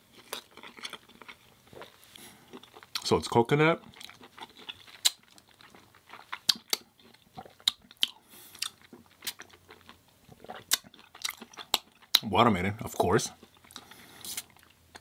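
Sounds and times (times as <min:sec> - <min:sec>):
person chewing with crunches: 0:00.0 - 0:12.3, 0:13.3 - 0:15.0.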